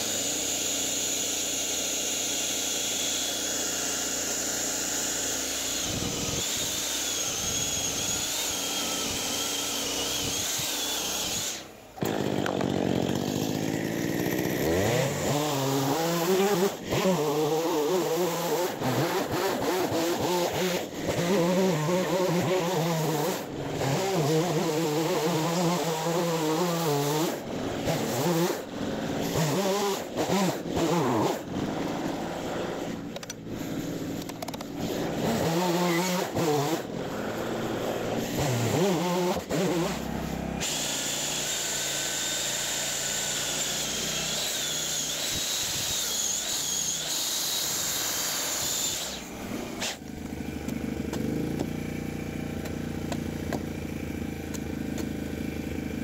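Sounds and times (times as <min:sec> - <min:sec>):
drill boring into timber: 0:00.0 - 0:51.8
electric chainsaw cutting log: 0:00.0 - 0:56.0
small engine humming: 0:00.0 - 0:56.0.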